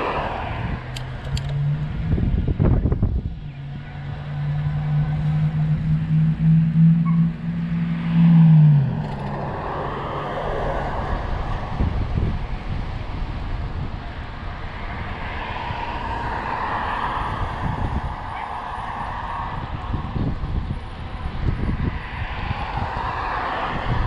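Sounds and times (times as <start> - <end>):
motor vehicle passing: 0.0 - 24.0
road and wind noise: 0.0 - 24.0
vehicle tyre noise: 0.0 - 24.0.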